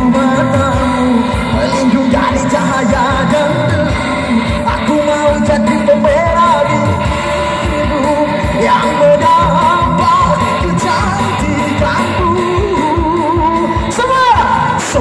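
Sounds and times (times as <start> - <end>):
live band music: 0.0 - 15.0
person singing ornamented vocals: 0.0 - 15.0
steady drum beat: 0.0 - 15.0.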